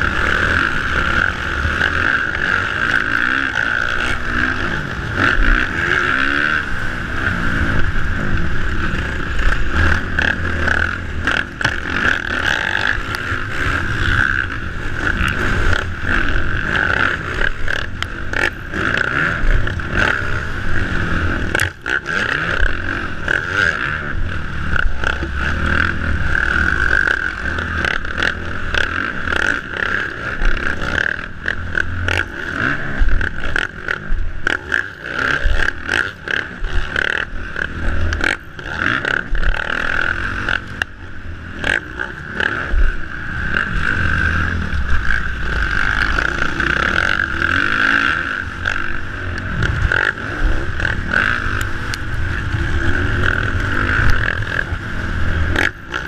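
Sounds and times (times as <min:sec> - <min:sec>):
dirt bike engine running hard: 0:00.0 - 0:56.0.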